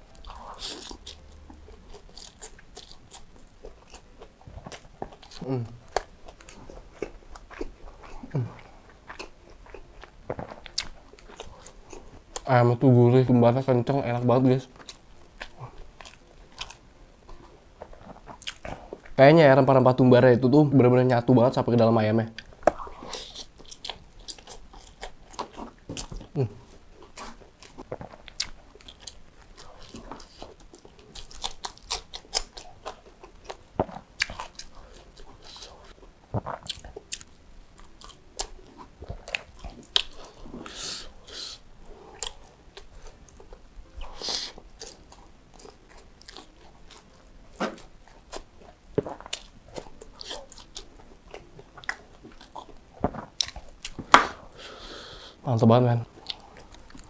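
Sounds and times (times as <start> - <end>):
person chewing food: 0.0 - 12.5, 14.6 - 19.2, 22.3 - 55.4, 56.0 - 57.0.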